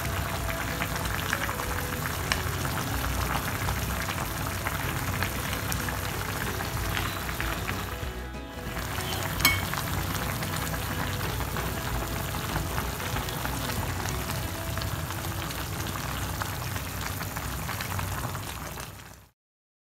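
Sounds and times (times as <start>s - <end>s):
stew bubbling in a pan: 0.0s - 19.3s.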